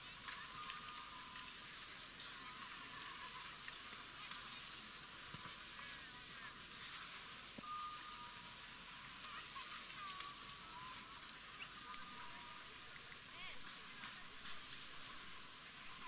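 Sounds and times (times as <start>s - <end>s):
faint voices: 0.0s - 16.0s
steady hiss: 0.0s - 16.0s.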